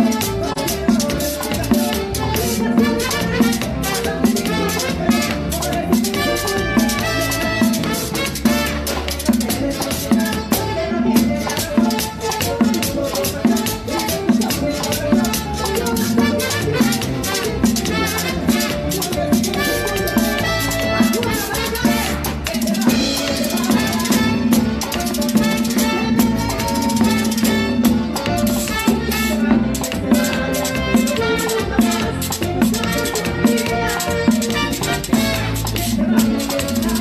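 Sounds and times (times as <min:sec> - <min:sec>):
merengue band playing: 0:00.0 - 0:37.0
metal guira scraped rhythmically: 0:00.0 - 0:37.0.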